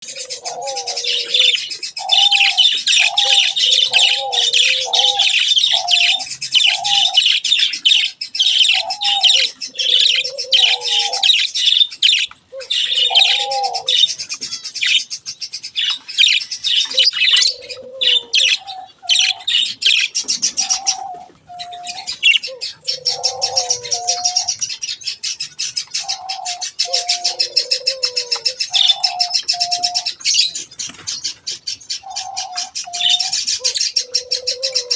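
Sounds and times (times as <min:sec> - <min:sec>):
lower bird call notes: 0:00.0 - 0:30.6
budgerigars chattering: 0:00.0 - 0:34.9.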